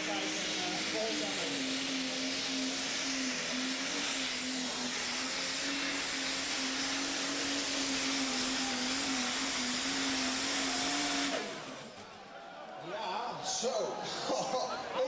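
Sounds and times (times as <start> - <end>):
vehicle engine running at high revs: 0.0 - 12.3.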